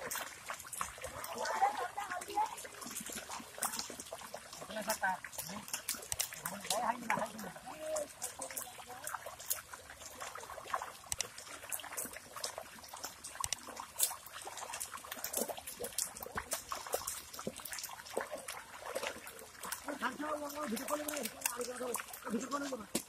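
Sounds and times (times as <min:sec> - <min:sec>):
splashing in muddy water: 0:00.0 - 0:23.0.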